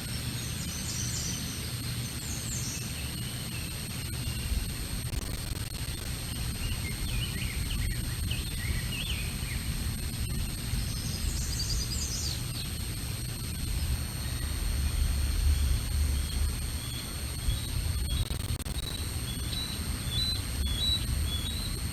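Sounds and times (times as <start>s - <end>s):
steady high-pitched hum: 0.0s - 21.9s
small birds chirping: 0.2s - 21.9s.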